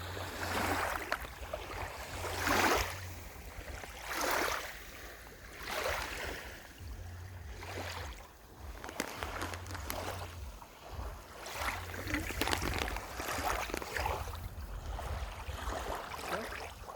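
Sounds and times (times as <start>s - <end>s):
water splashing and lapping: 0.0s - 16.9s.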